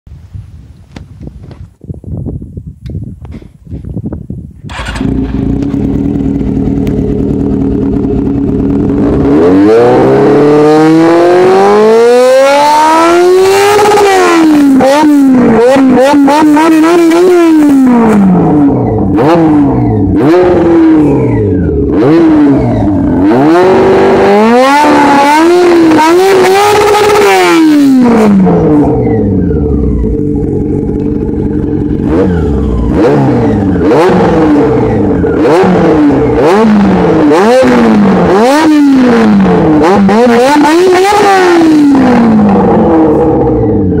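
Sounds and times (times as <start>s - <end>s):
motorcycle engine revving: 4.6s - 44.0s.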